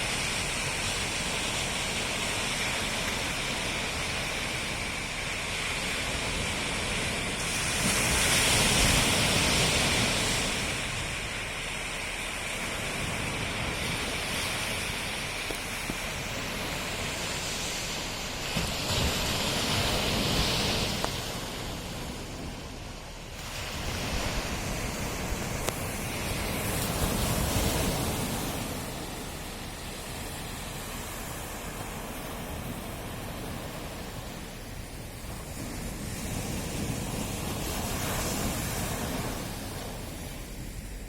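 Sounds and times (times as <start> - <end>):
sea waves surf: 0.0 - 41.0.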